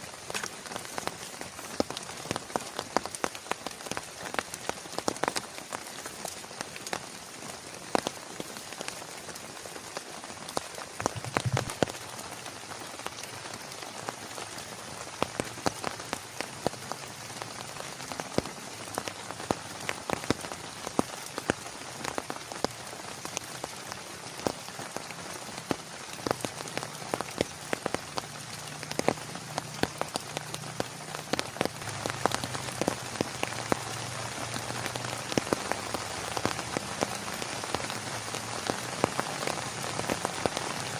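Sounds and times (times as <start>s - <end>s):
heavy rain: 0.0s - 40.9s
raindrops striking close by: 0.0s - 40.9s.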